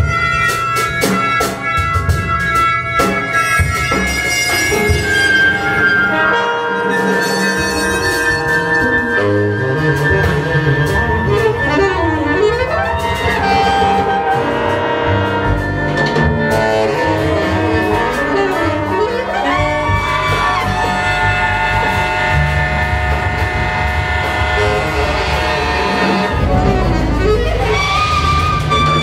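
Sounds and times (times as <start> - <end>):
bass and drums: 0.0 - 29.0
brass and reeds chords: 0.0 - 29.0
saxophone line: 0.0 - 29.0.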